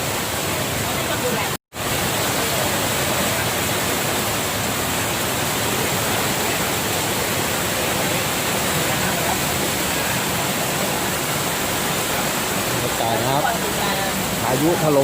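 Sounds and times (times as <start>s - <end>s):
rainstorm with strong wind: 0.0s - 15.0s.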